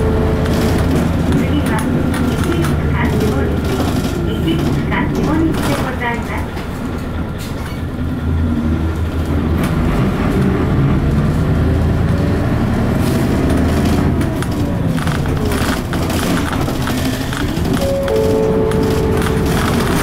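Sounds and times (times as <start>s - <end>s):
bus body rattling: 0.0s - 20.0s
bus diesel engine running hard: 0.0s - 20.0s.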